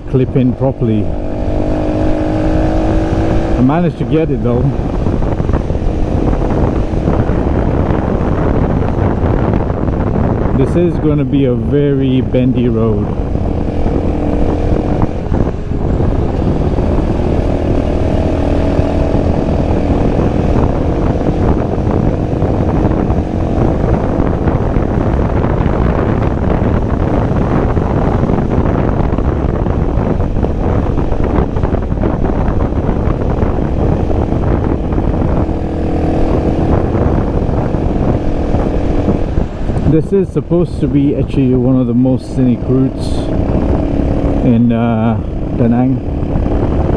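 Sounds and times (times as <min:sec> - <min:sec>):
motorbike engine running: 0:00.0 - 0:46.9
wind rumble on microphone: 0:00.0 - 0:46.9.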